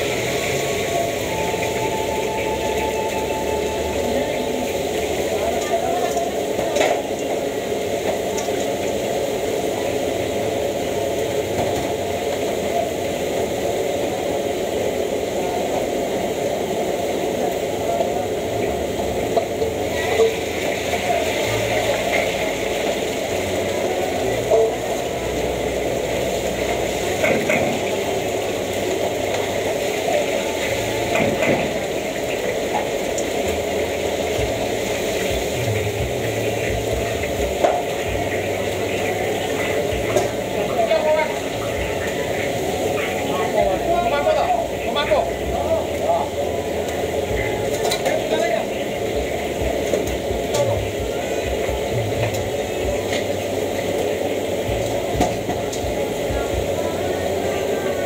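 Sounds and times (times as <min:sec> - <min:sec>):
gas burner rushing flame: 0:00.0 - 0:58.0
oil sizzling in a wok: 0:00.0 - 0:58.0.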